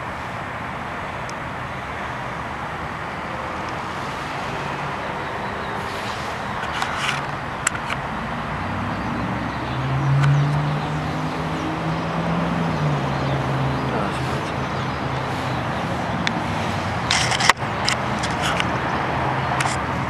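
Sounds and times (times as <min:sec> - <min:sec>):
road traffic rush: 0:00.0 - 0:20.0
vehicle engine hum: 0:00.0 - 0:20.0.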